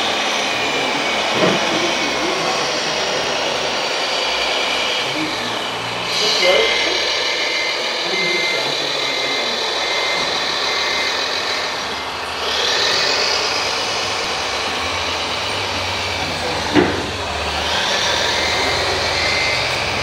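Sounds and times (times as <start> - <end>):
toy truck engine: 0.0 - 20.0.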